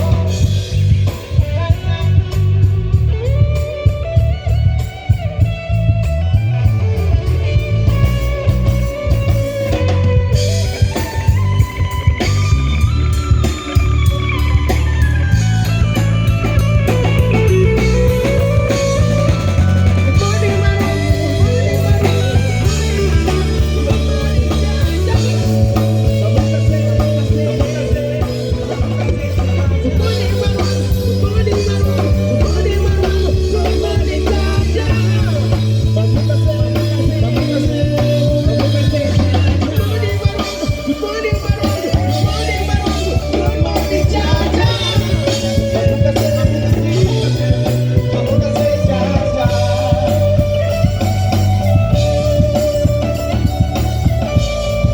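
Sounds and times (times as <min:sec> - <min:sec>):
band music: 0:00.0 - 0:54.9
bass line: 0:00.0 - 0:54.9
person singing: 0:06.4 - 0:53.6.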